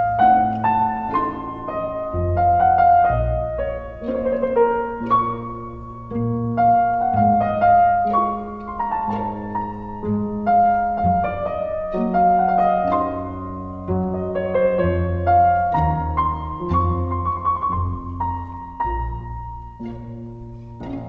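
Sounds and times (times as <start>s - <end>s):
solo piano melody: 0.0s - 21.0s.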